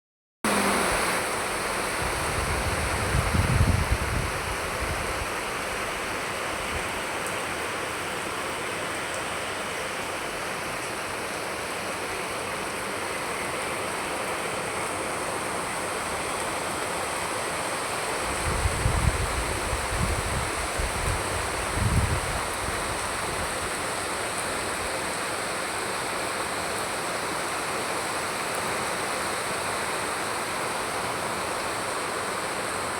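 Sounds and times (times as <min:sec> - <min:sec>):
heavy rain: 0:00.4 - 0:32.9.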